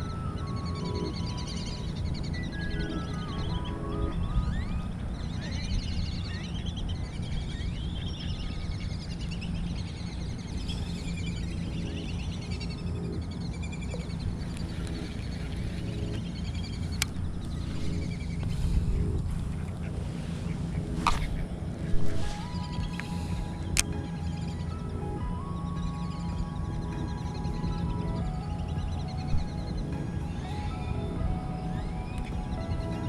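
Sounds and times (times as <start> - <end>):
birds chirping and calling: 0.0 - 33.0
low background rumble: 0.0 - 33.0.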